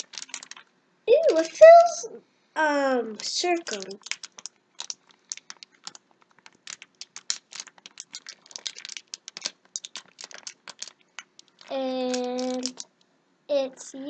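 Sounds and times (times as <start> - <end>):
plastic packet crinkling: 0.0 - 2.0, 3.1 - 13.0.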